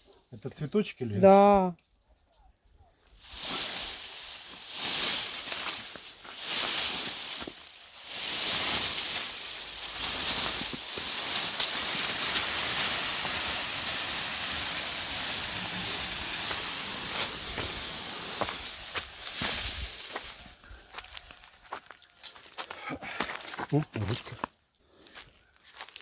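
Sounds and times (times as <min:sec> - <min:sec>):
leafy branches rustling: 0:01.8 - 0:24.5.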